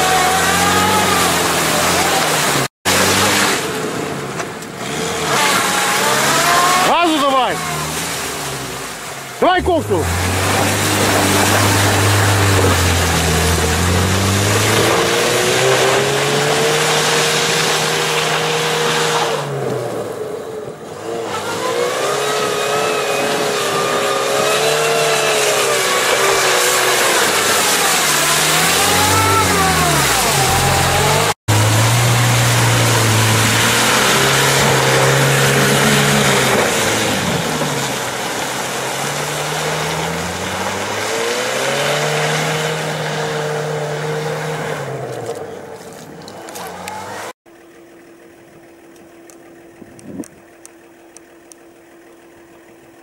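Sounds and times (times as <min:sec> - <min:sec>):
car engine revving: 0:00.0 - 0:47.4
wheels spinning in mud: 0:00.0 - 0:53.0.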